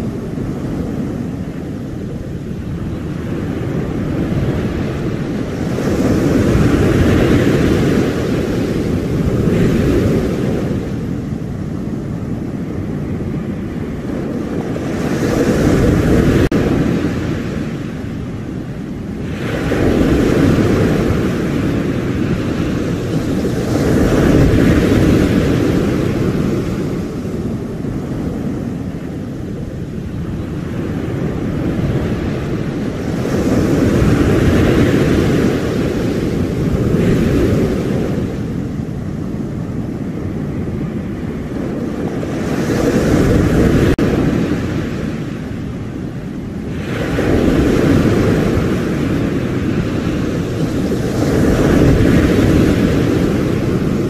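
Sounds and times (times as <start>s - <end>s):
waves breaking on a sandy beach: 0.0s - 54.0s.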